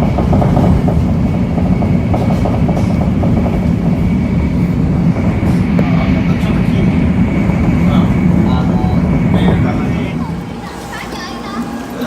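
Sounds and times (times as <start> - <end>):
train rumble inside passenger car: 0.0 - 12.0.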